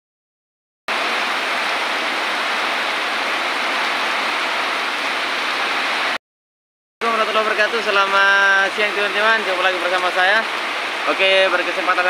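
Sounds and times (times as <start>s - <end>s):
heavy rain on foliage: 0.9s - 6.2s, 7.0s - 12.0s.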